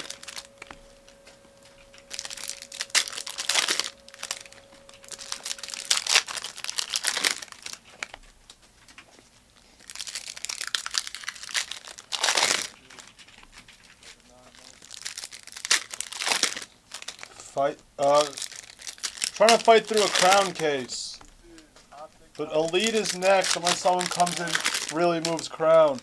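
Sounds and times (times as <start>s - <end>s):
card pack wrappers tearing: 0.0s - 9.0s, 9.6s - 17.4s, 18.0s - 21.0s, 22.4s - 26.0s.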